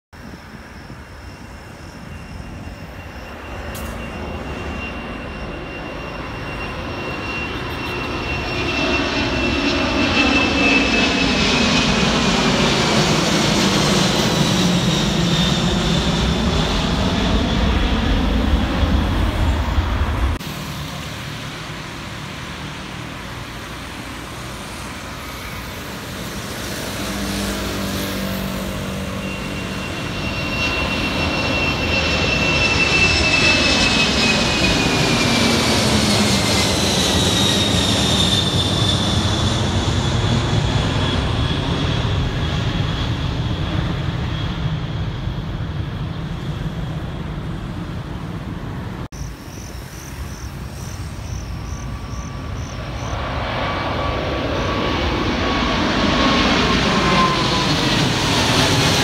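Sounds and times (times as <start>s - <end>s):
jet engines roaring overhead: 0.2s - 59.0s.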